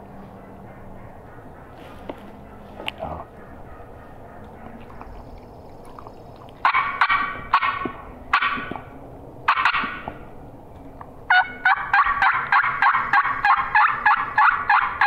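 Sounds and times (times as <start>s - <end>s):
turkey call notes: 0.0s - 10.2s, 11.3s - 15.0s.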